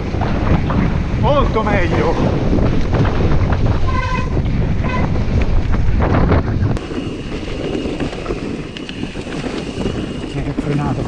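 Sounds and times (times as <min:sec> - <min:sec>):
bike rumbling on rough trail: 0:00.0 - 0:11.0
wind buffeting microphone: 0:00.0 - 0:11.0.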